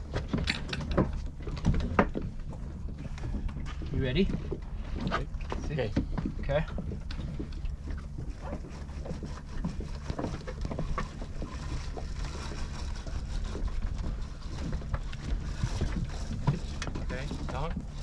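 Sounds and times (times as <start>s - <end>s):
boat motor idling: 0.0s - 18.0s.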